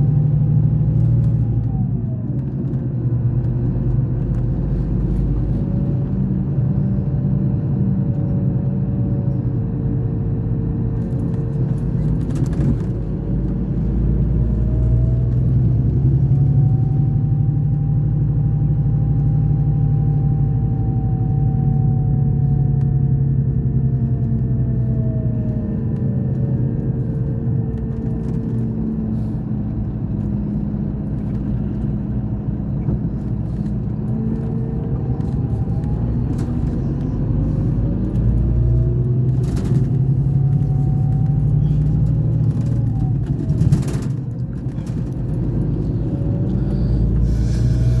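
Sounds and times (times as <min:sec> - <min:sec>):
diesel engine low rumble: 0:00.0 - 0:48.0
engine whine: 0:00.0 - 0:48.0.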